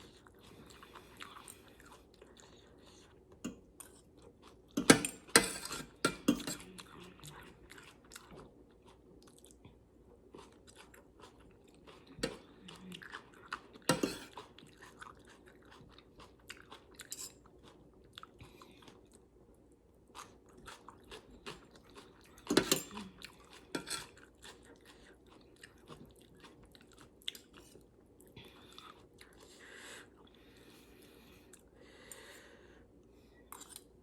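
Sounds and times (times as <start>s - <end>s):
person chewing and crunching food: 0.0s - 34.0s.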